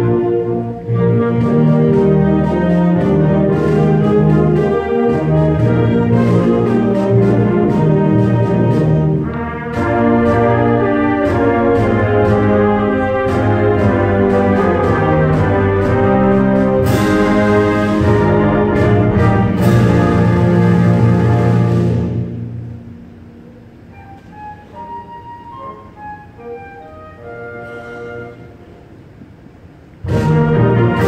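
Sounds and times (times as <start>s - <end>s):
concert band playing: 0.0s - 29.0s, 29.9s - 31.0s.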